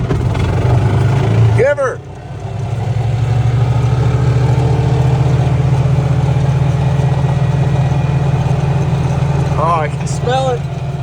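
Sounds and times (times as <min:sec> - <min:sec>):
golf cart engine droning: 0:00.0 - 0:11.0.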